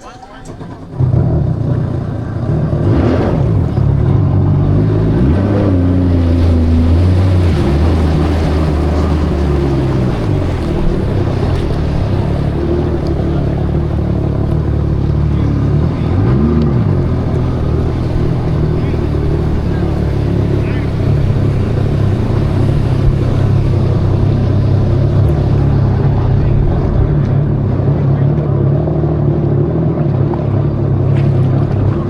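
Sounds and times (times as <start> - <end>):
jet ski engine: 0.0 - 32.0.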